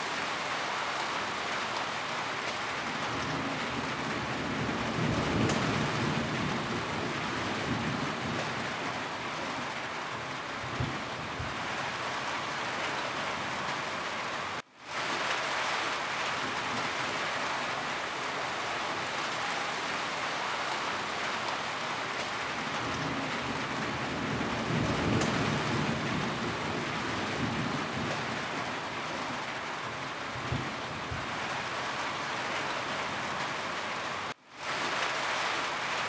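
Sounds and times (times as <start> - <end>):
rain on a roof: 0.0 - 36.0.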